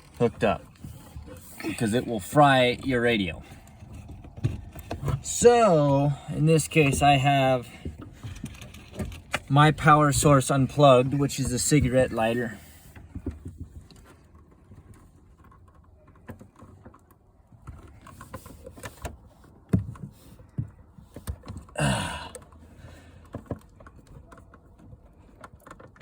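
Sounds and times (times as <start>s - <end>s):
clicks and knocks from handling gear: 0.0s - 5.5s, 6.6s - 26.0s.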